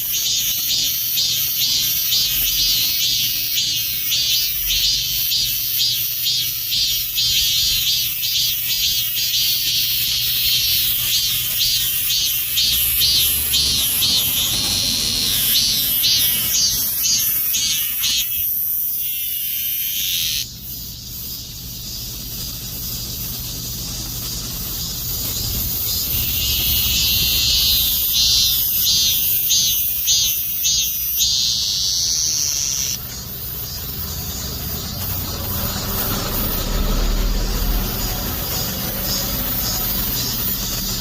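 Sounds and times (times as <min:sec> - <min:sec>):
cicadas buzzing: 0:00.0 - 0:41.0
high insect hiss: 0:00.0 - 0:41.0.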